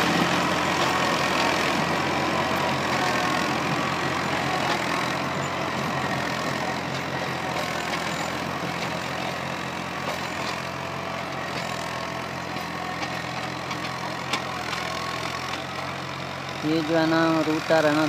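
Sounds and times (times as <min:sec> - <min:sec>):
tiller churning soil: 0:00.0 - 0:18.0
tractor diesel engine running: 0:00.0 - 0:18.0.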